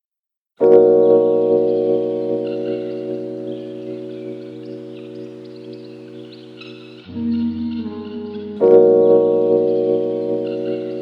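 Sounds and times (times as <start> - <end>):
held keyboard chord: 0.6 - 11.0.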